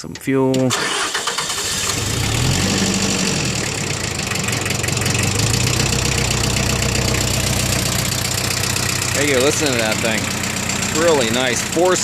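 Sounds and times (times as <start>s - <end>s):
diesel tractor engine idling: 0.8s - 12.0s.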